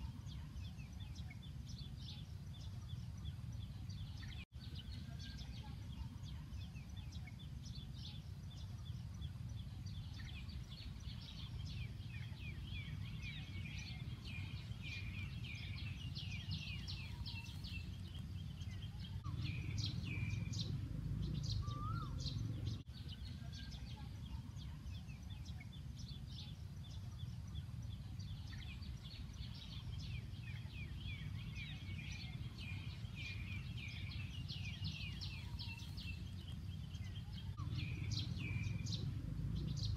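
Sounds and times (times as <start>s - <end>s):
small birds chirping: 0.0s - 39.9s
steady low rumble: 0.0s - 39.9s.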